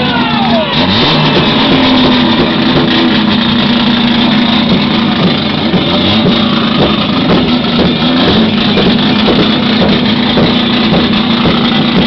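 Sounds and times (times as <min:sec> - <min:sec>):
race car engine droning: 0:00.0 - 0:12.0.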